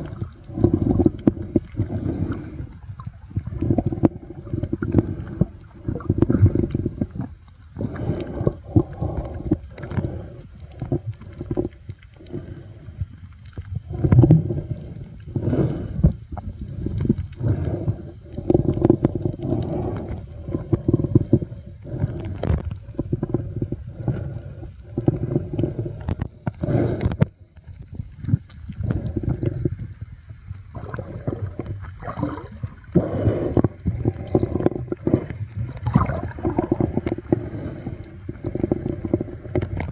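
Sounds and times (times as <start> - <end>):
faint clicks: 0.0 - 39.9
muffled underwater sloshing: 0.0 - 39.9.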